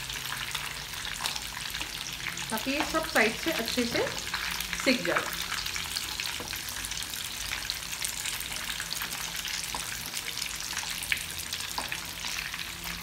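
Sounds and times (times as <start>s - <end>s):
meat deep-frying in oil: 0.0s - 13.0s.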